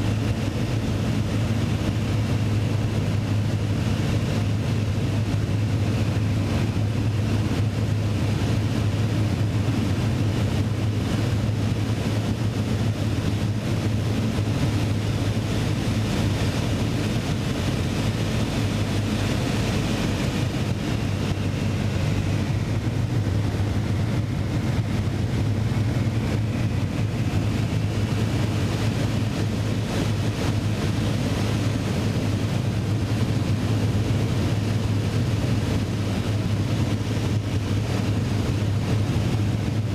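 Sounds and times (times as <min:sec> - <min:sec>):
propeller aircraft engine droning: 0:00.0 - 0:39.9
wind rushing: 0:00.0 - 0:39.9.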